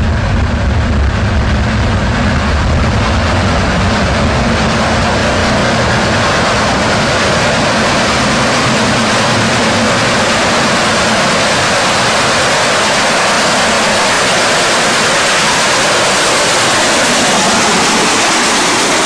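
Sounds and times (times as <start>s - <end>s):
low hum: 0.0s - 19.0s
steam locomotive roaring hiss: 3.0s - 19.0s.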